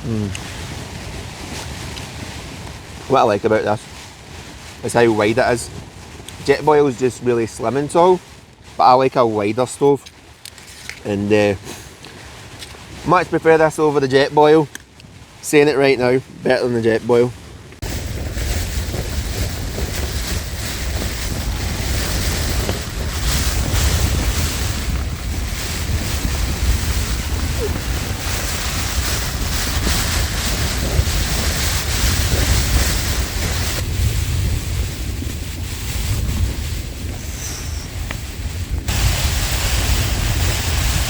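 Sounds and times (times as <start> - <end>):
wind buffeting microphone: 0.0 - 10.2, 12.2 - 41.0
wind and rain hiss: 0.0 - 41.0.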